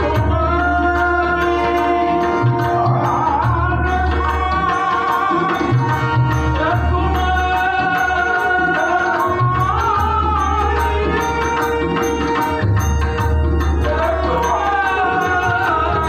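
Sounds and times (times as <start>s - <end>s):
man singing: 0.0s - 12.6s, 13.6s - 16.0s
harmonium: 0.0s - 16.0s
tabla strokes: 0.0s - 16.0s.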